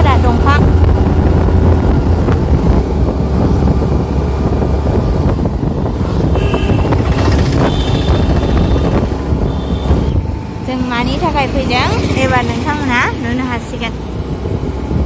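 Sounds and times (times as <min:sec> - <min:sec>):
motor scooter running: 0:00.0 - 0:15.0
wind buffeting microphone: 0:00.0 - 0:15.0.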